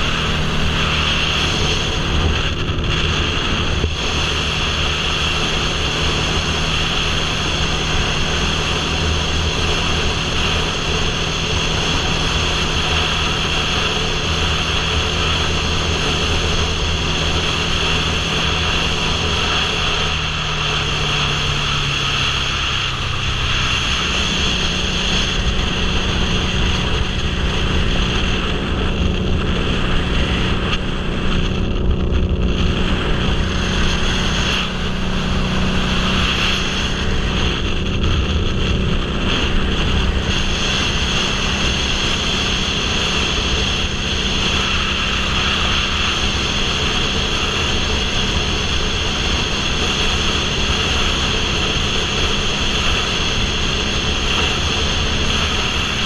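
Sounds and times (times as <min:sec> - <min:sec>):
motorcycle engine cruising: 0:00.0 - 0:56.0
wind rush over microphone: 0:00.0 - 0:56.0.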